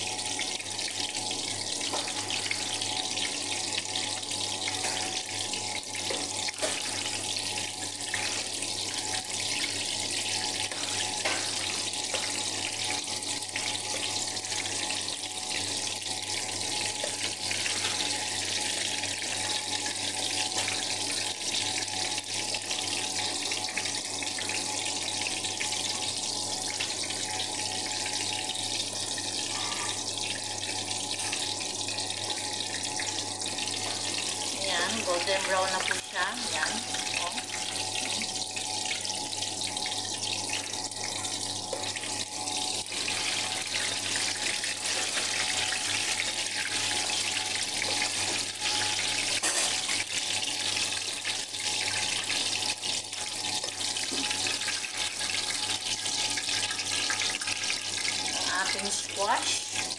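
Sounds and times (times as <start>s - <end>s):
eggplant sizzling in oil: 0.0s - 59.9s.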